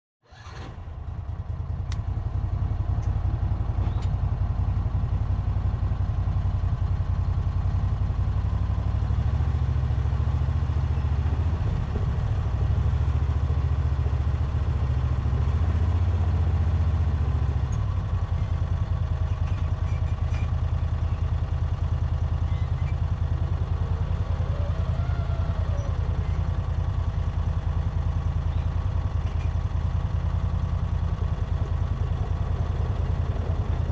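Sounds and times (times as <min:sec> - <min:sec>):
engine idling: 0:00.3 - 0:33.9.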